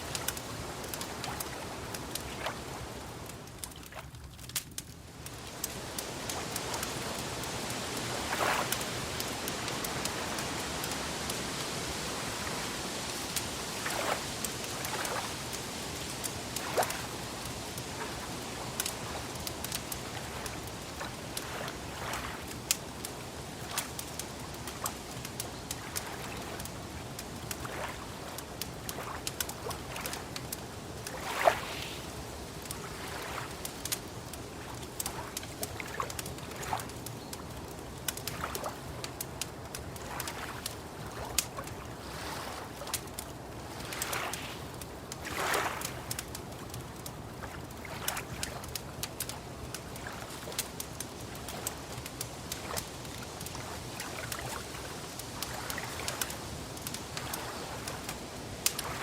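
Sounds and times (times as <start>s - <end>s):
water waves lapping: 0.0s - 59.0s
wood fire crackling: 0.0s - 59.0s.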